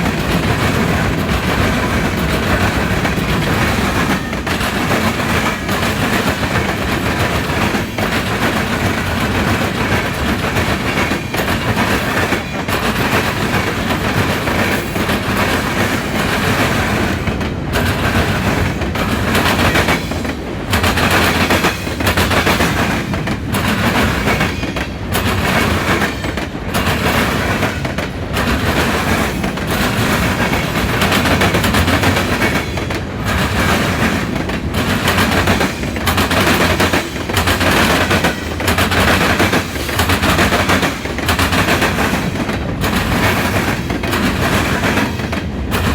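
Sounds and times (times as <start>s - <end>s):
train wheels clattering over crossing: 0.0s - 45.9s.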